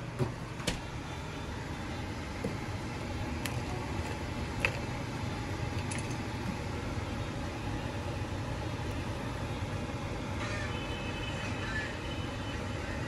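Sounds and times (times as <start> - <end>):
liquid boiling in a saucepan: 0.9 - 13.0.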